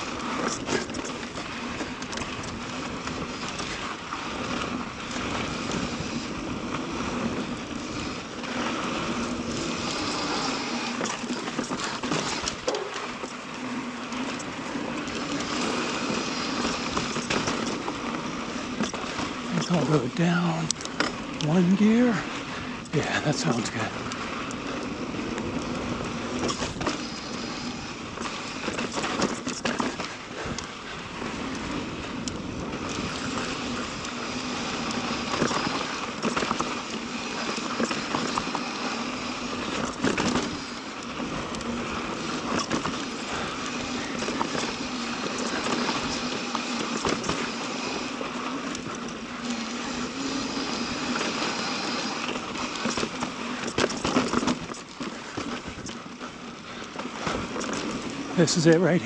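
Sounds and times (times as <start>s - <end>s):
bike rattling over bumps: 0.0s - 59.0s
bike tyres rolling over dirt: 0.0s - 59.0s
freewheel hub buzzing: 0.0s - 59.0s.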